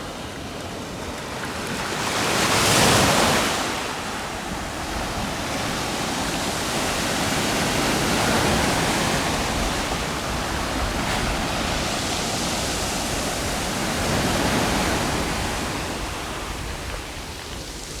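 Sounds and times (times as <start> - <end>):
sea surf washing ashore: 0.0 - 18.0.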